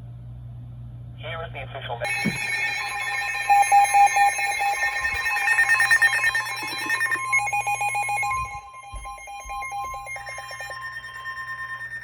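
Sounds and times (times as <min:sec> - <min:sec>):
rapid pulsing electronic beeps: 0:02.0 - 0:12.0
steady alert tone: 0:02.0 - 0:12.0.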